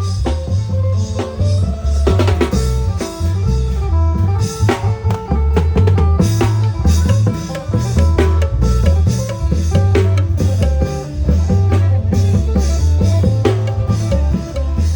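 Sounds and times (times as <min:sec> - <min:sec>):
drums and percussion: 0:00.0 - 0:14.9
heavy bass line: 0:00.0 - 0:14.9
pitched melody: 0:00.0 - 0:14.9.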